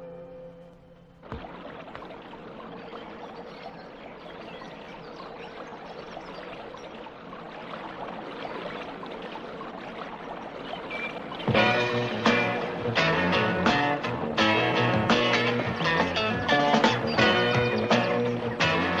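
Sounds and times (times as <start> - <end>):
river water pouring over weir: 1.2 - 19.0.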